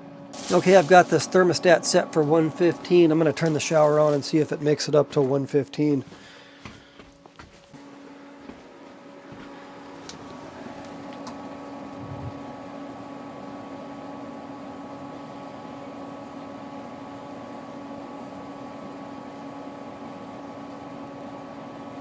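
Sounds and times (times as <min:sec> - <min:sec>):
water heater blower hum: 0:00.0 - 0:22.0.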